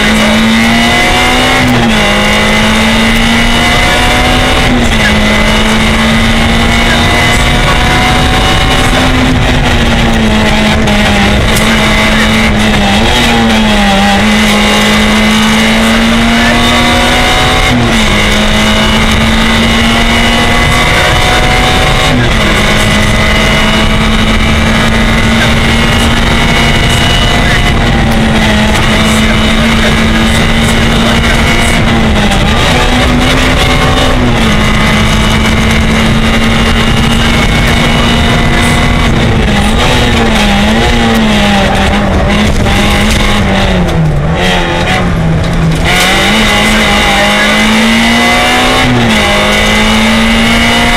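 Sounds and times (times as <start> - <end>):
car engine at high revs: 0.0 - 50.9
road and wind noise: 0.0 - 50.9.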